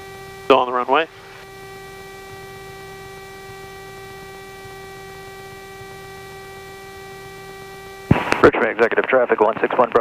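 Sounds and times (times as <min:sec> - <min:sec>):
electrical hum with whine: 0:00.0 - 0:10.0
faint aircraft engine idling: 0:00.0 - 0:10.0.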